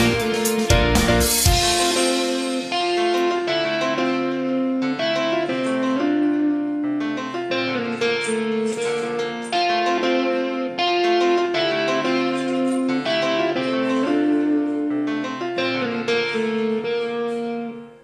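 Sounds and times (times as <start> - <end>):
keyboard melody of held notes: 0.0 - 18.0.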